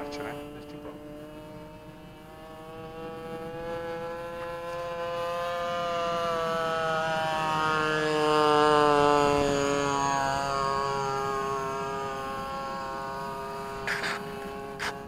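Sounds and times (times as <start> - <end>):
model plane engine buzzing: 0.0 - 15.0.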